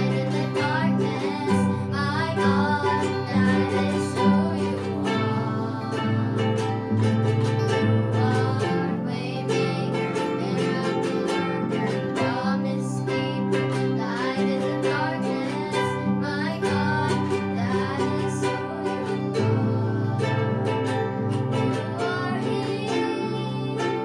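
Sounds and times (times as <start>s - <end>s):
person singing: 0.0s - 24.0s
plucked strings: 0.0s - 24.0s.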